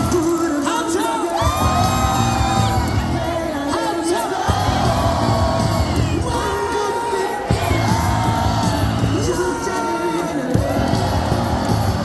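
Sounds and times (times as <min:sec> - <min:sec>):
people shouting: 0:00.0 - 0:12.0
stadium crowd singing: 0:00.0 - 0:12.0.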